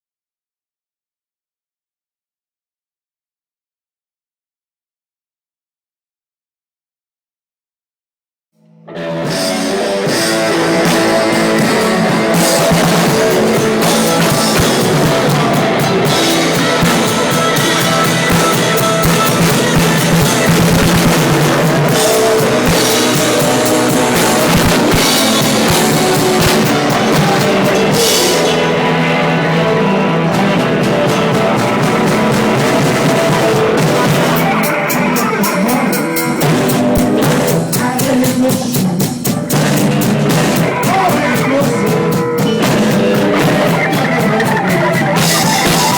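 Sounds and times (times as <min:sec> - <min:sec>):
live rock band playing blues: 0:08.9 - 0:45.9.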